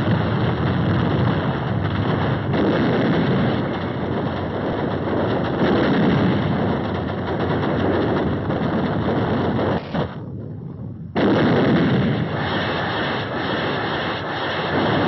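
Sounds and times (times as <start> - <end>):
naval gunfire rumble: 0.0 - 10.3, 11.1 - 15.0.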